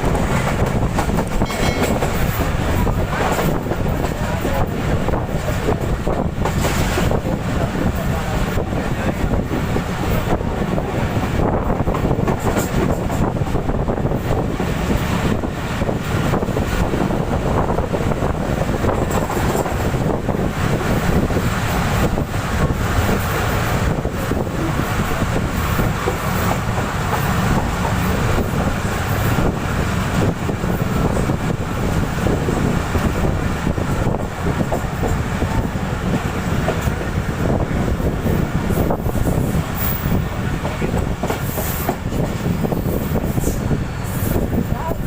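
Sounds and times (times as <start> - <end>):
train wheels rumbling on rails: 0.0 - 45.0
wheels clacking over rail joints: 0.0 - 45.0.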